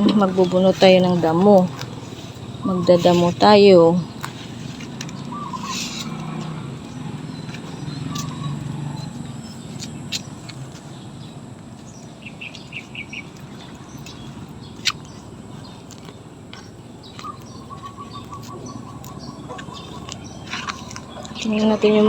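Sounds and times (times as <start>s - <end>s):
bird chirping: 0.0s - 22.0s
low steady hum: 0.0s - 22.0s.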